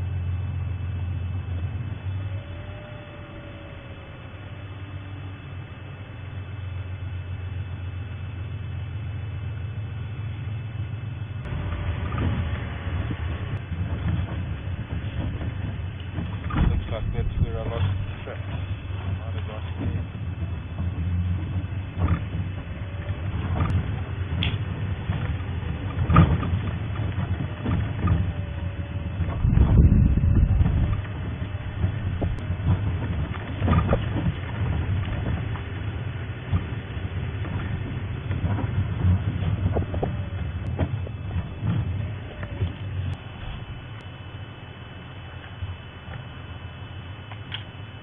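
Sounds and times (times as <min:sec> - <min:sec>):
louder rough noise: 0:00.0 - 0:45.8
vehicle engine humming: 0:00.0 - 0:48.0.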